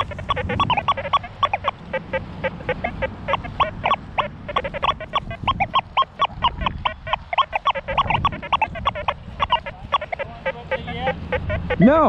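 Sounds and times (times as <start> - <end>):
metal detector short beeps: 0.0 - 1.8, 2.5 - 11.8.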